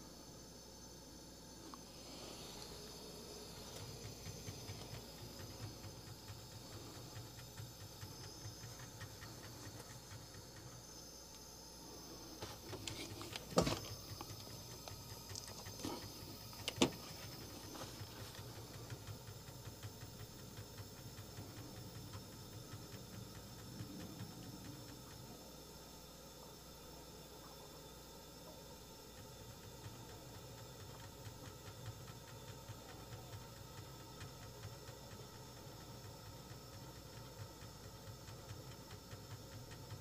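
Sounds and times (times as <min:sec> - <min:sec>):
faint steady hiss and hum: 0:00.0 - 0:40.0.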